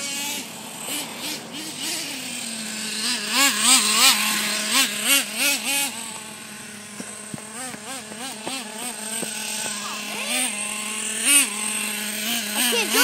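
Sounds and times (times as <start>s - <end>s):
small engine idling and revving: 0.0s - 13.0s.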